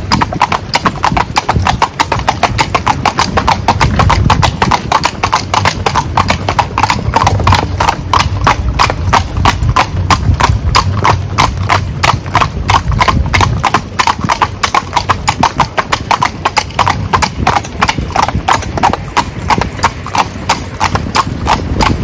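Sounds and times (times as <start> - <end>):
hooves clip-clopping on asphalt: 0.0 - 22.0
low steady rumble: 0.0 - 22.0.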